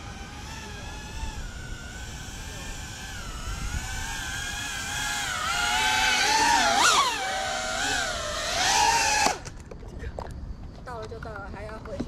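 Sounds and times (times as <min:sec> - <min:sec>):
quadcopter motors whining: 0:00.0 - 0:09.8.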